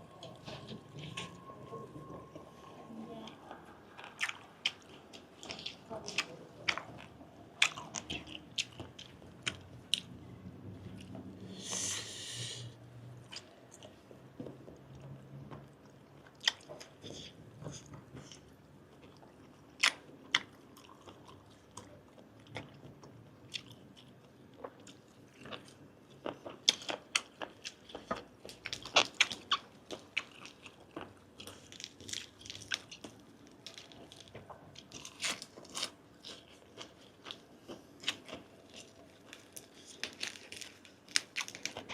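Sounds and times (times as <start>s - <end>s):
person chewing wet food: 0.0s - 12.4s, 13.1s - 41.9s.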